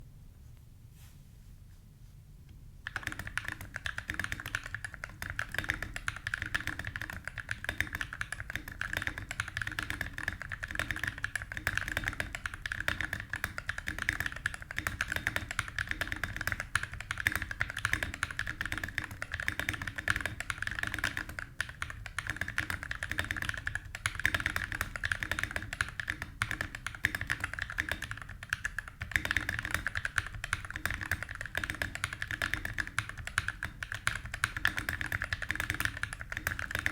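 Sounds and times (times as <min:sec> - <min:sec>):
fast typing on mechanical keyboard: 0:02.8 - 0:36.9.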